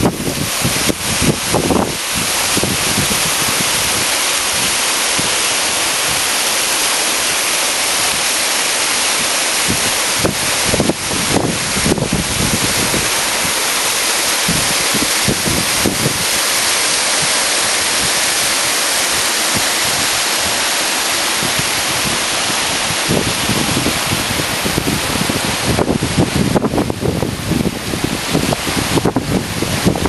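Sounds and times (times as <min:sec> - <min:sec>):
wind buffeting microphone: 0:00.0 - 0:06.3, 0:09.1 - 0:30.0
waterfall rushing: 0:00.0 - 0:30.0.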